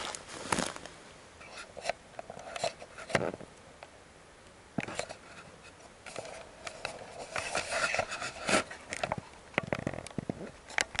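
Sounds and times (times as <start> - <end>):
camera handling rustling and scraping: 0.0 - 3.4, 4.8 - 10.9.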